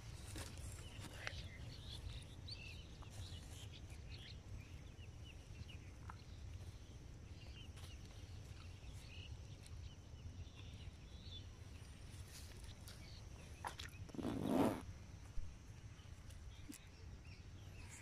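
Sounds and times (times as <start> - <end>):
faint bird chirps: 0.2 - 18.0.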